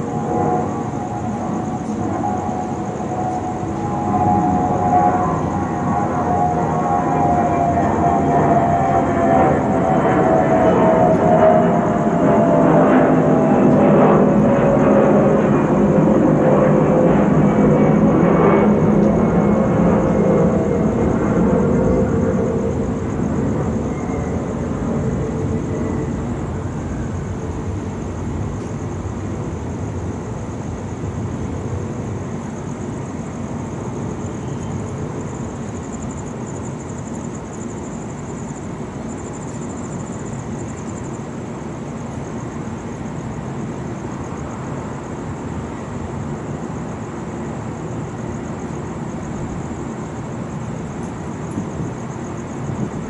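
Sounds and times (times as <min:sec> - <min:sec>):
distant city traffic rumble: 0:00.0 - 0:53.0
insects buzzing: 0:00.0 - 0:53.0.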